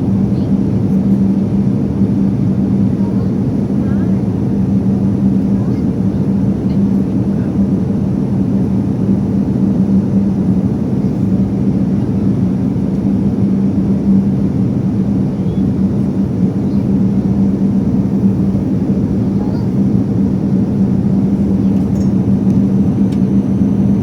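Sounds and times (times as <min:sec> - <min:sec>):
jet engines and airflow rushing: 0:00.0 - 0:24.0
steady cabin hum: 0:00.0 - 0:24.0.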